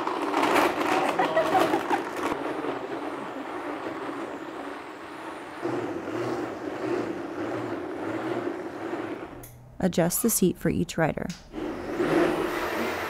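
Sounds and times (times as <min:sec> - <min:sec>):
blender whirring: 0:00.0 - 0:09.6, 0:11.4 - 0:13.0.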